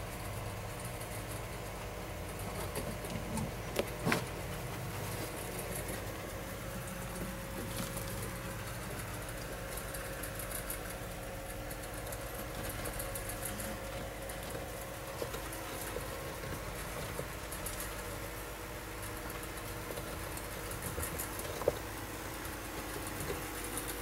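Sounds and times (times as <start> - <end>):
steady low hum: 0.0 - 24.0
rodent rustling in shavings: 0.8 - 24.0.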